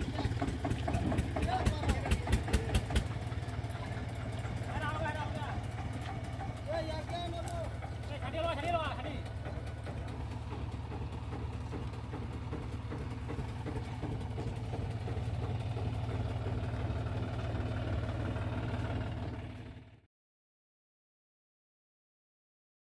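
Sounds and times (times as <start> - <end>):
tractor diesel engine running: 0.0 - 20.1.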